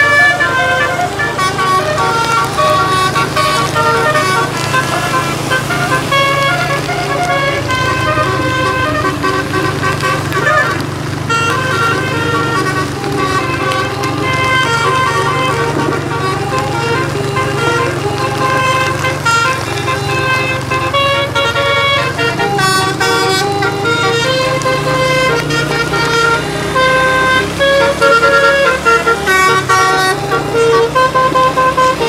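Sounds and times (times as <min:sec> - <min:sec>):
bus engine hum: 0:00.0 - 0:32.0
bus horn playing a tune: 0:00.0 - 0:32.0.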